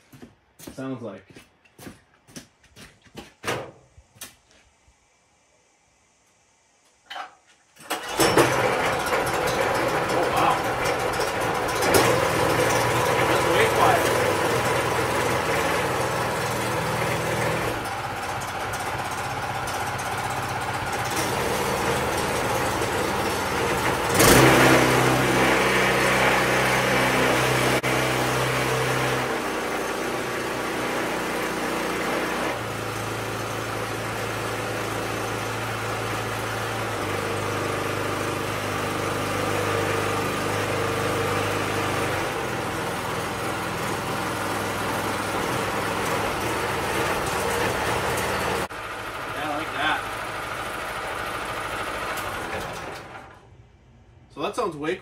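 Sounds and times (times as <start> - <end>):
small engine running: 7.9 - 53.4.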